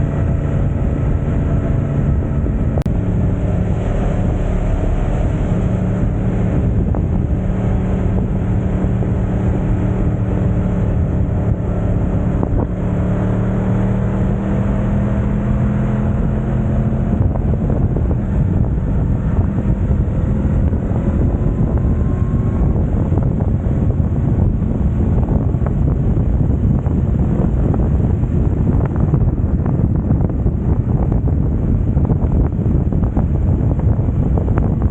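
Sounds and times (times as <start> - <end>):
motorcycle engine cruising: 0.0 - 34.9
wind on microphone: 0.0 - 34.9.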